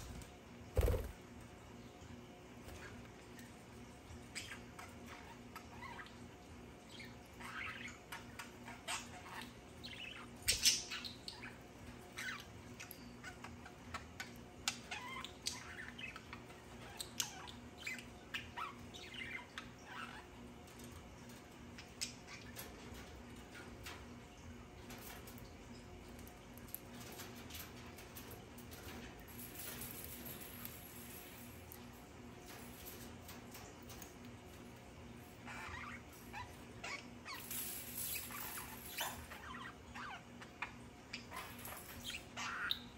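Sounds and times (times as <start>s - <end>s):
birds chirping and squawking: 0.0s - 42.9s
faint steady hum: 0.0s - 42.9s.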